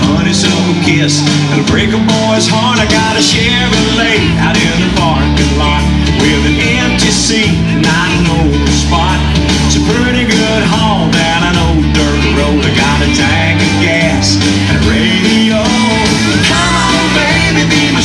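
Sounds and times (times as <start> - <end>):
rock and roll song: 0.0 - 18.0.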